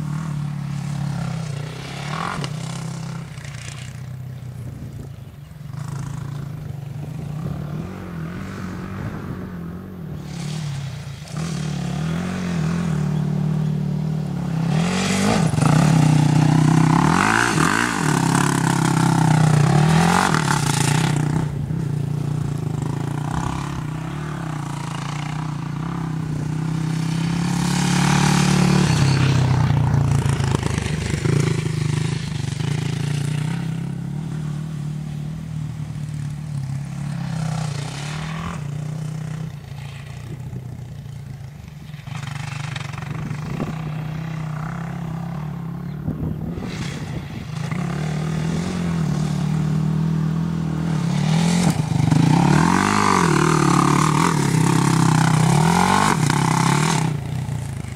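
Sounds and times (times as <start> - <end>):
quad bike engine revving: 0.0 - 57.9.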